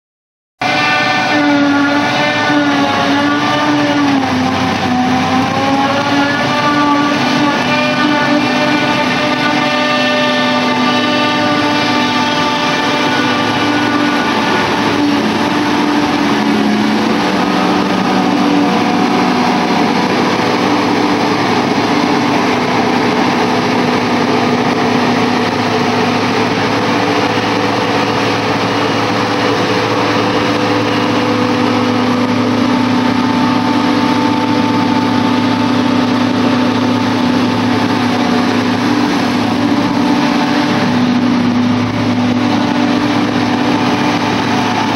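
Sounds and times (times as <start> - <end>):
forage harvester running: 0.6 - 44.9
high-pitched whine: 0.6 - 44.9
tractor engine: 0.6 - 44.9.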